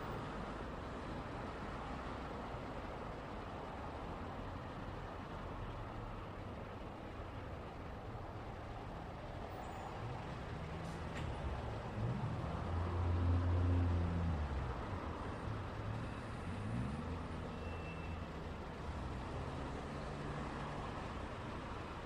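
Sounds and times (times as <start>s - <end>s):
heavy vehicle engine drone: 0.0s - 22.0s
tyre and road noise: 0.0s - 22.0s.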